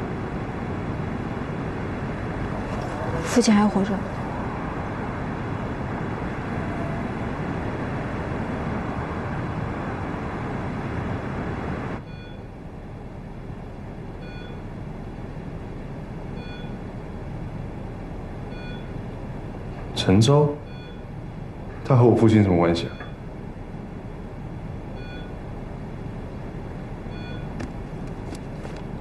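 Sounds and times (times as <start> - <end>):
distant traffic rumble: 0.0 - 29.0
quiet hum: 0.0 - 29.0.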